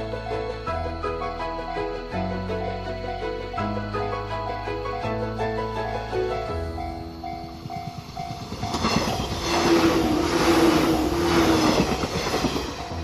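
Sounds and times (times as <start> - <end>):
background music: 0.0 - 13.0
train passing close by: 0.0 - 13.0.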